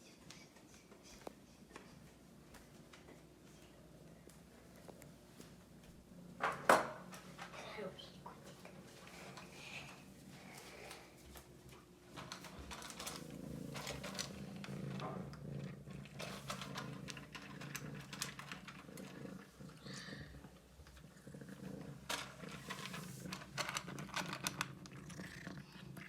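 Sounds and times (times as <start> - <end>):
cat purring: 1.9 - 26.0.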